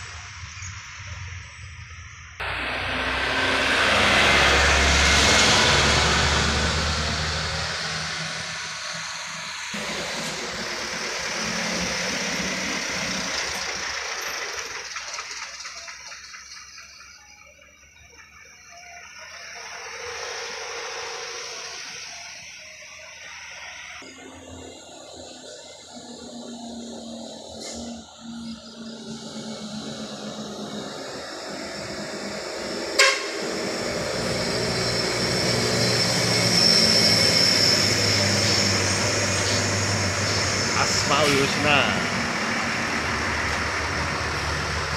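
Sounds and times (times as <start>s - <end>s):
high steady whine: 0.0s - 15.6s, 16.9s - 44.9s
diesel engine under load: 0.0s - 44.9s.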